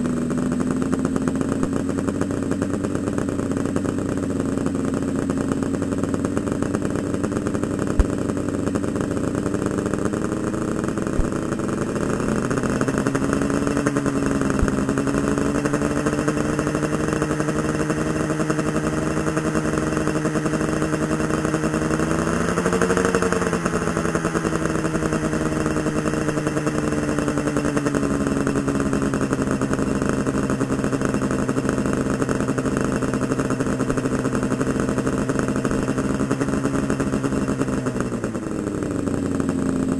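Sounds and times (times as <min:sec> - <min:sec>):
two-stroke motorcycle engine idling: 0:00.0 - 0:39.9.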